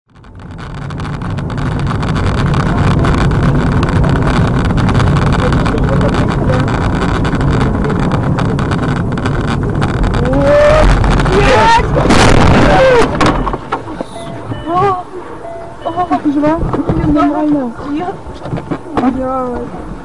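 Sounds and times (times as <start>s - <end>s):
tyre road noise: 0.0s - 20.0s
car engine drone: 0.1s - 20.0s.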